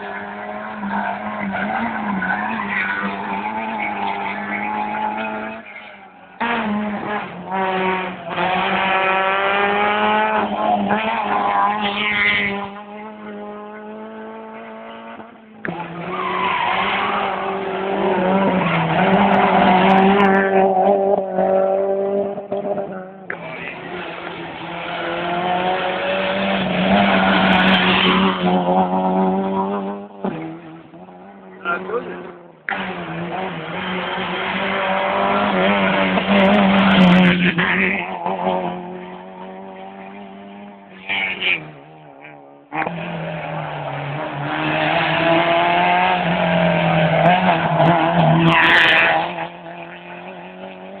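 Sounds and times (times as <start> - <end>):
rally car engine revving: 0.0 - 51.0.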